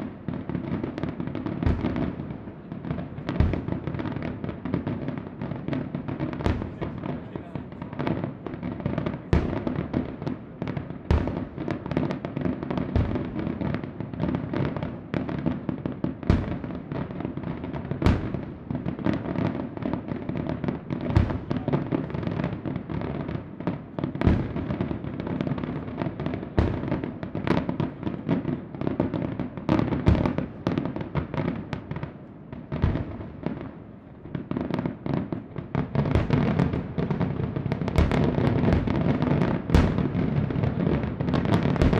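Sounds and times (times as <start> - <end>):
firework bangs: 0.0 - 41.9
firework crackle: 0.0 - 41.9.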